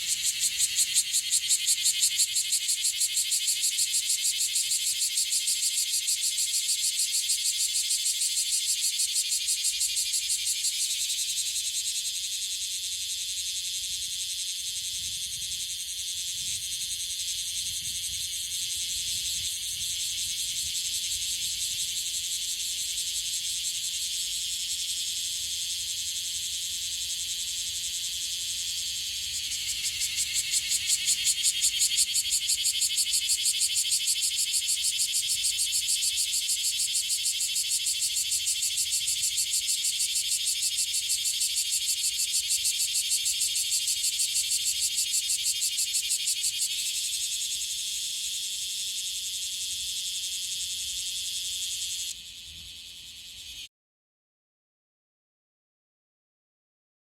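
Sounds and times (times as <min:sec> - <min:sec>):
cicada pulsing buzz: 0:00.0 - 0:53.7.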